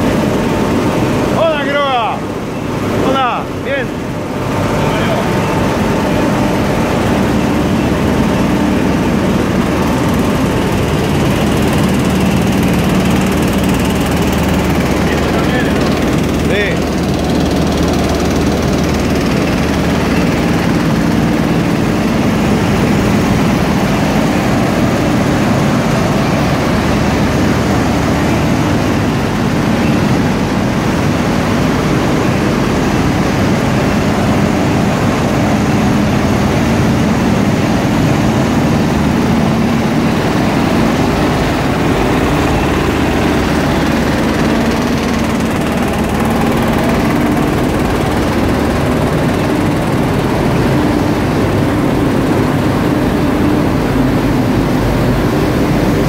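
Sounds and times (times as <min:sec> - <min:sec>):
mill machinery din: 0:00.0 - 0:56.0.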